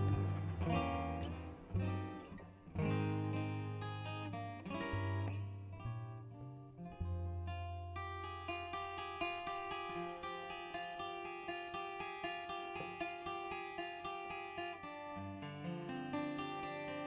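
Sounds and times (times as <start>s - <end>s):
acoustic guitar picking notes: 0.0s - 17.0s.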